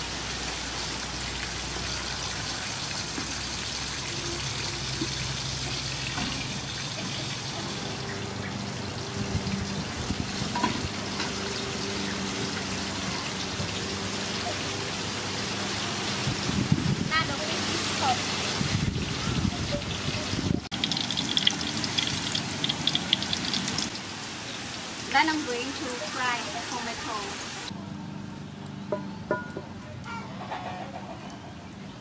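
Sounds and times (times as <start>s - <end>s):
fish sizzling in hot oil: 0.0s - 27.7s.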